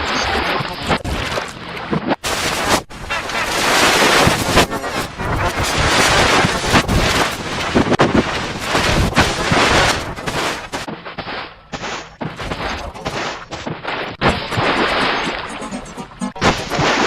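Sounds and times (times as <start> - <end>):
noisy sound effect bursts: 2.2 - 17.0
sharp crack: 2.2 - 17.0.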